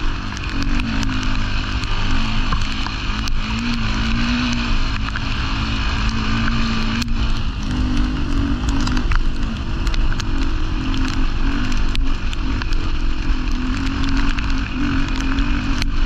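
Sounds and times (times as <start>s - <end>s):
motorcycle engine revving: 0.0s - 16.0s
sharp ticks: 0.0s - 16.0s.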